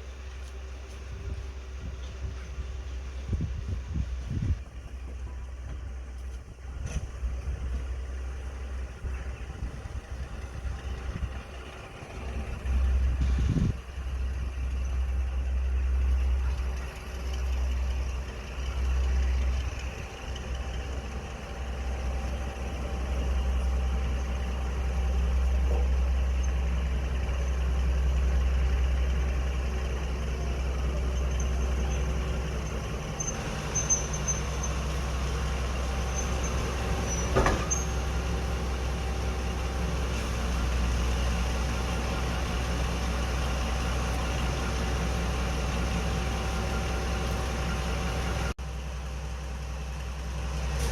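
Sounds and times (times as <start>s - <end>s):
diesel locomotive engine rumbling: 0.0s - 50.9s.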